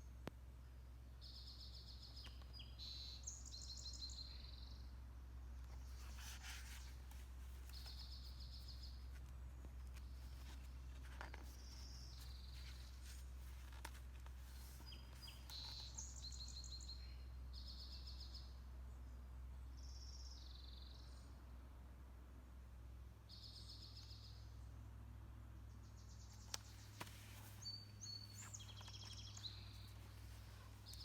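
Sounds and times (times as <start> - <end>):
songbird singing: 0.0 - 21.5, 23.2 - 24.9, 25.6 - 31.0
faint low hum: 0.0 - 31.0.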